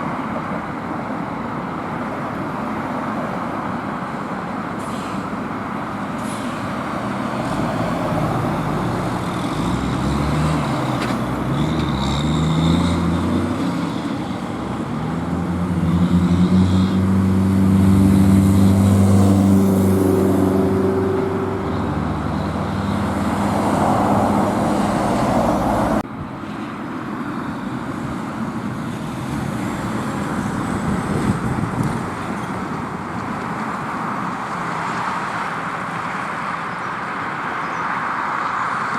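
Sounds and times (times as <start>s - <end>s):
heavy truck engine passing: 0.0s - 37.4s
road traffic: 0.0s - 38.9s.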